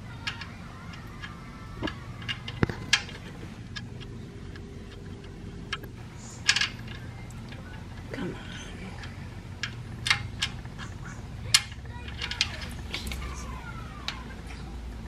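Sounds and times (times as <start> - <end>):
tools clattering: 0.0 - 14.7
low hum: 0.0 - 15.0.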